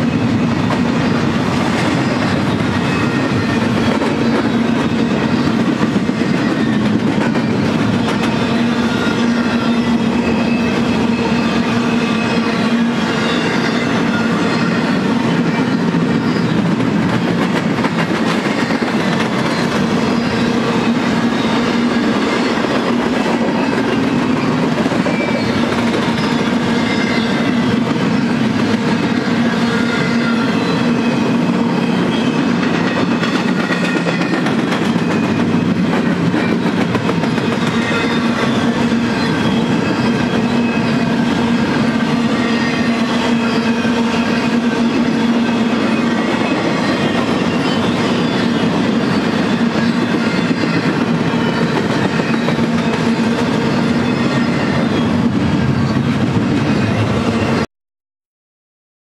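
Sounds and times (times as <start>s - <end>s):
freight train wheels on rails: 0.0s - 57.7s.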